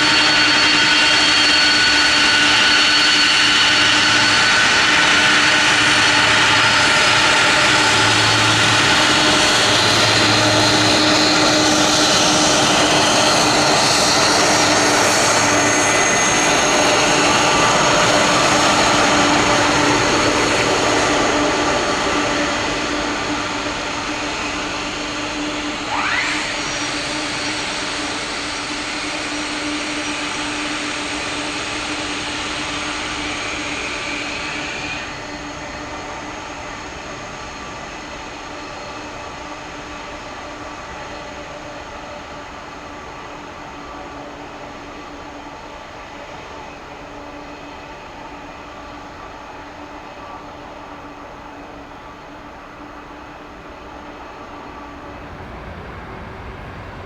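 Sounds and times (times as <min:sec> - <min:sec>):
jet engine noise: 0:00.0 - 0:57.0.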